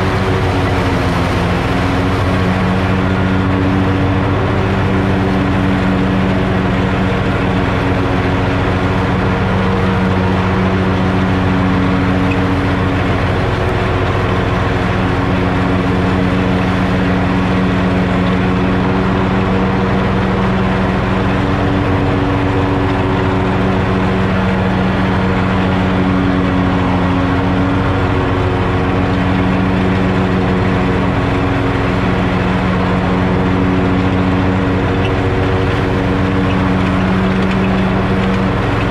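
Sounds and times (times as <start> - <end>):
lawn mower cutting grass: 0.0 - 38.9.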